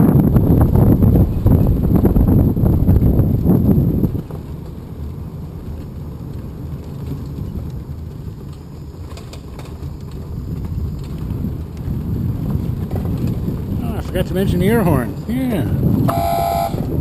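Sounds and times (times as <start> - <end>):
toy truck motor and tyres rumbling: 0.8 - 17.0.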